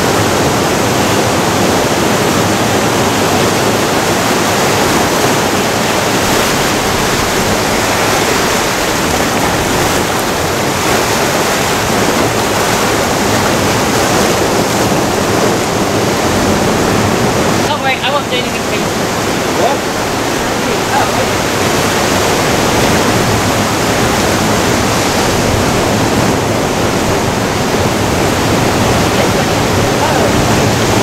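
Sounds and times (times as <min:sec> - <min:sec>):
surf breaking over rocks: 0:00.0 - 0:31.0.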